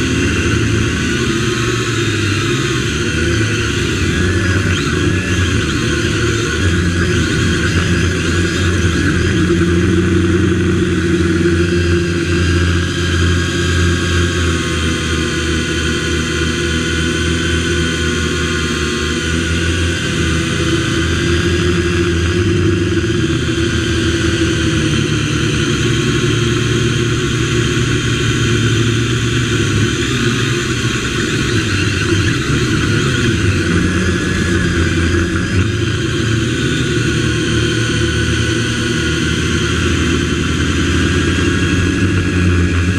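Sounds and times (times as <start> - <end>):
drone propellers buzzing: 0.0 - 42.9.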